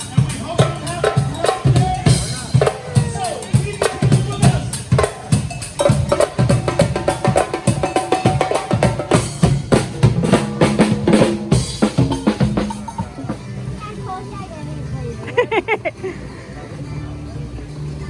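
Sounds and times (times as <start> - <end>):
drum kit and percussion beat: 0.0 - 14.6.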